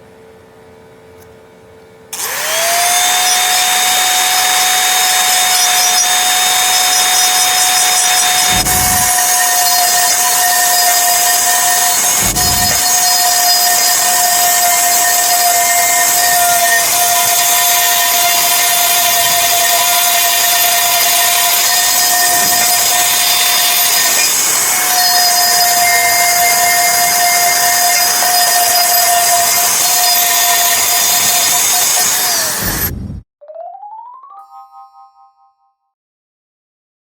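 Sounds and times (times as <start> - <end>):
power tool whining: 2.1 - 33.1.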